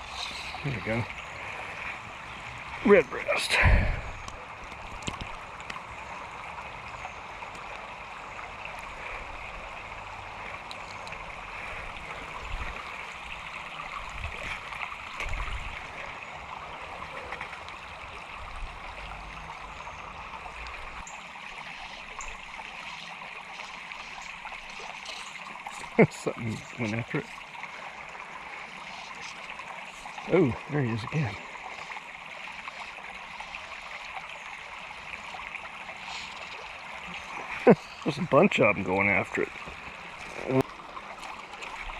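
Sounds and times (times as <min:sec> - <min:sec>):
creek water running: 0:00.0 - 0:41.9.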